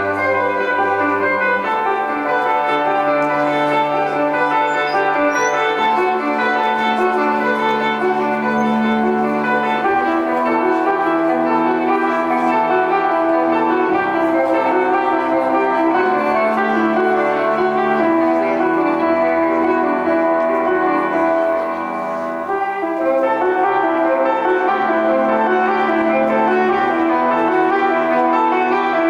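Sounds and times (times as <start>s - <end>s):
slow instrumental music: 0.0s - 29.0s.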